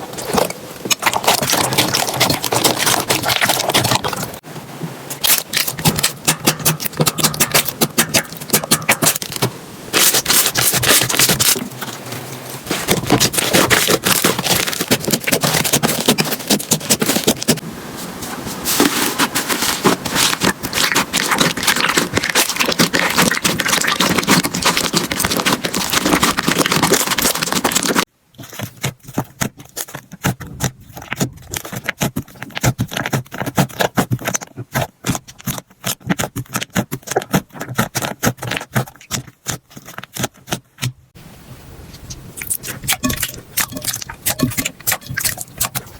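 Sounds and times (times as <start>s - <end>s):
slime crackling and popping: 0.2s - 4.4s, 5.1s - 12.0s, 12.7s - 17.6s, 19.4s - 40.9s, 42.4s - 45.9s.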